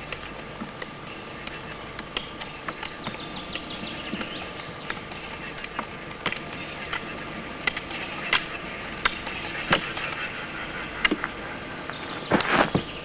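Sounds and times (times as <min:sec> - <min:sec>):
ski poles clicking on gravel: 0:00.7 - 0:13.0
roller skis rolling on gravel: 0:01.4 - 0:13.0.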